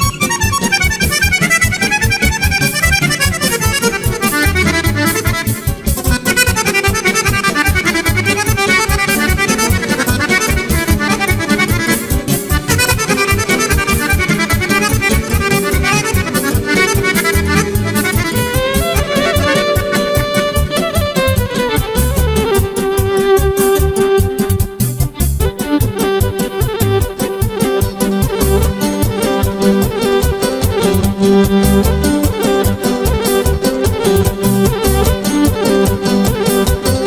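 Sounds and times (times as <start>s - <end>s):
button accordion dance tune: 0.0s - 37.0s
violin held notes: 0.0s - 37.0s.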